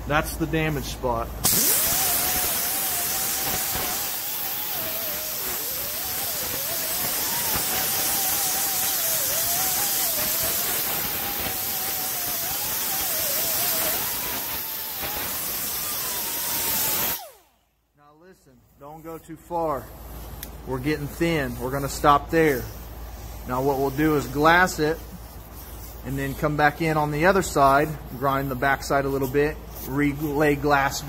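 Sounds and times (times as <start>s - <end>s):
grinder grinding fiberglass: 0.6s - 17.5s, 18.8s - 31.0s.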